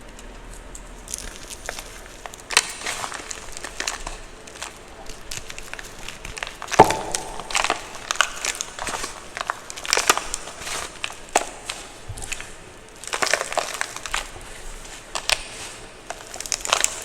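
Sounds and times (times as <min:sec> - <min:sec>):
chalk crunching: 0:00.5 - 0:17.0.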